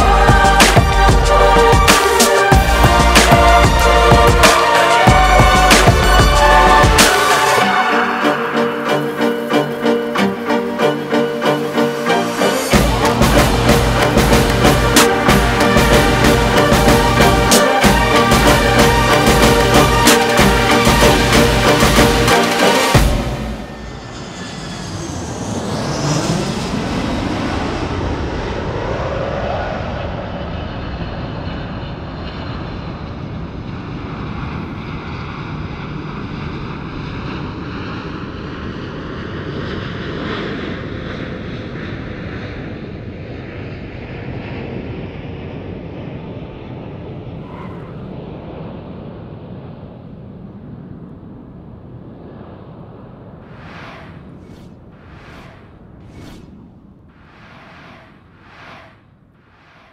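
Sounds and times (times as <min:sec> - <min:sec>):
jet airliner flying overhead: 0:00.0 - 0:59.9.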